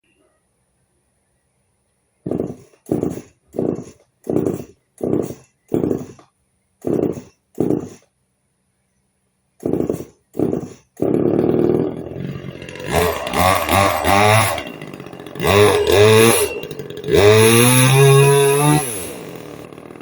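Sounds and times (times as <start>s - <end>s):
chainsaw engine revving: 2.3s - 8.0s, 9.6s - 20.0s.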